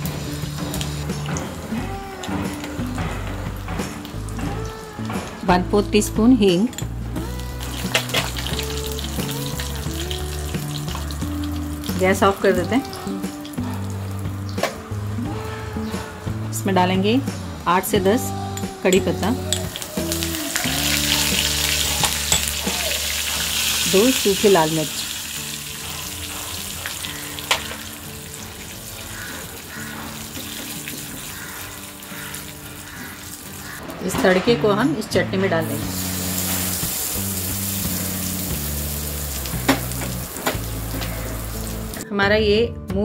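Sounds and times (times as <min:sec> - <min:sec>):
oil sizzling and crackling: 0:00.0 - 0:16.4, 0:17.5 - 0:34.1, 0:35.6 - 0:42.0
background music: 0:00.0 - 0:43.0.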